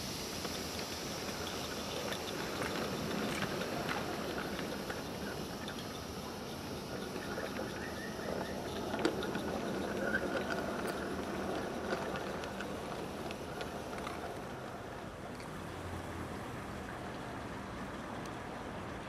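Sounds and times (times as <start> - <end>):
model train wagons rolling: 0.0 - 19.0
wheels clicking on rail: 0.0 - 19.0.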